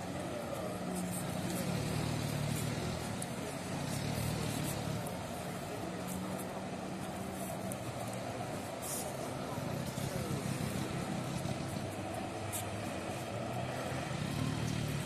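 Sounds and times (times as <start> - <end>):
jet ski engine droning: 0.0 - 15.0.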